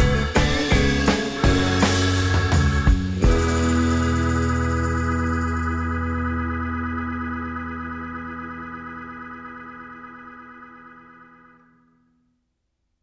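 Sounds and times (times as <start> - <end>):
background music held chord: 0.0 - 11.6.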